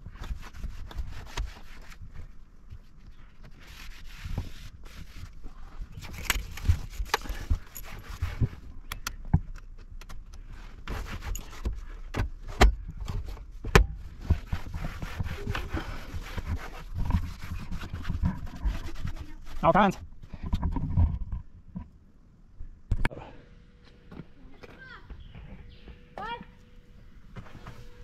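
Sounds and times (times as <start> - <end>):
objects rustling and scraping: 0.0 - 22.0, 23.7 - 28.0.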